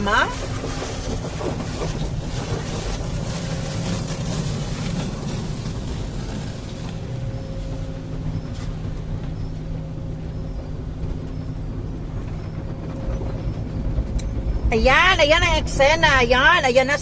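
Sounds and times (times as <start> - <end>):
car wash machinery humming: 0.0 - 17.0
rushing noise: 0.0 - 17.0.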